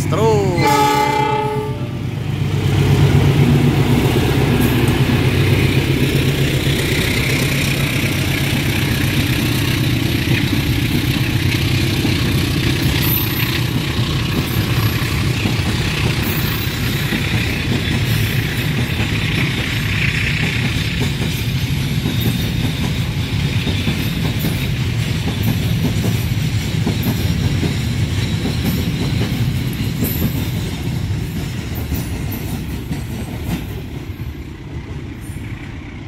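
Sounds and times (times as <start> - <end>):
diesel locomotive engine drone: 0.0 - 36.0
rumble of moving train: 0.0 - 36.0.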